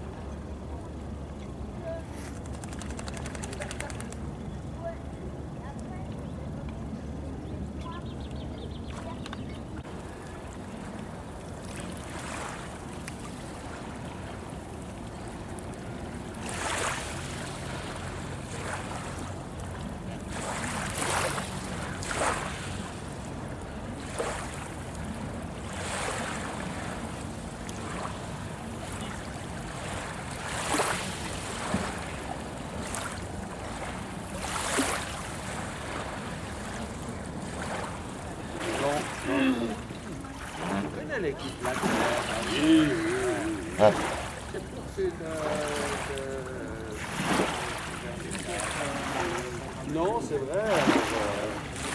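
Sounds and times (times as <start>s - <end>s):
small waves lapping on shore: 0.0s - 51.9s.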